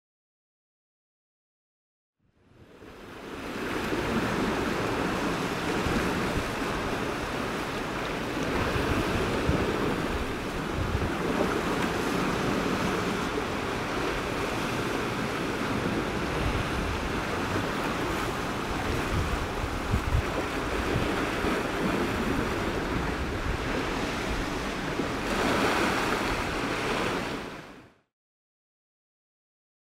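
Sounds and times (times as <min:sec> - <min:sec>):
wind buffeting microphone: 0:03.3 - 0:27.4
sea waves breaking on rocks: 0:03.3 - 0:27.7.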